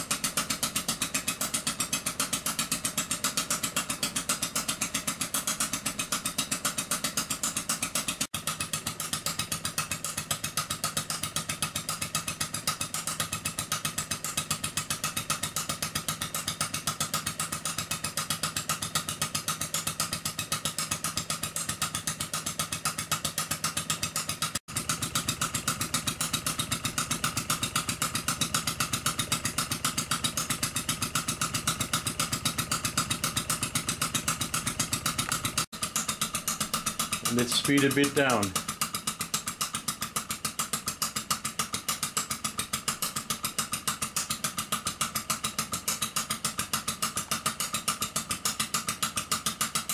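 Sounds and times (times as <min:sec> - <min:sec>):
miniature engine running fast: 0:00.0 - 0:49.9.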